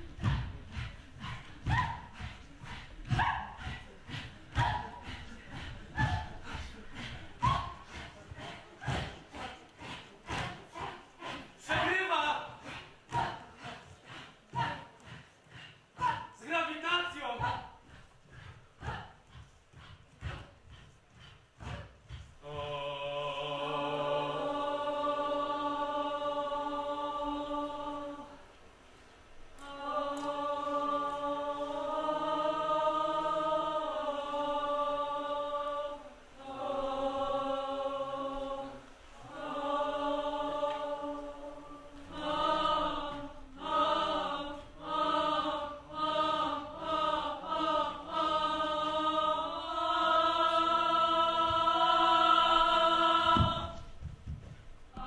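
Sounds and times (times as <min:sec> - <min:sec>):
voices singing in harmony: 0:00.0 - 0:55.0.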